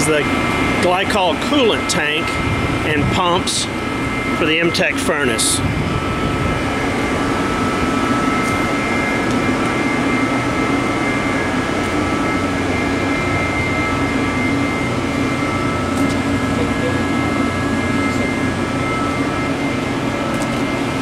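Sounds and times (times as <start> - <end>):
cooling equipment humming: 0.0 - 21.0.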